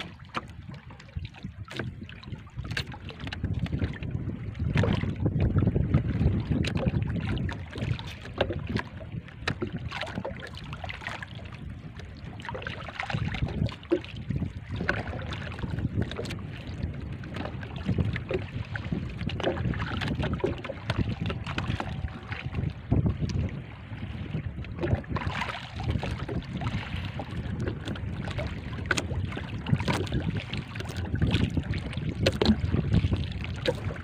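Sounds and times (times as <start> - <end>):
water lapping against boat hull: 0.0 - 34.0
wind buffeting microphone: 0.0 - 34.0.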